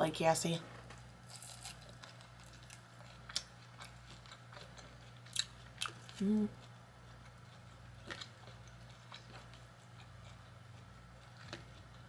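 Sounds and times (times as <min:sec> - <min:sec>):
low steady hum: 0:00.0 - 0:12.0
quiet chewing: 0:00.7 - 0:12.0.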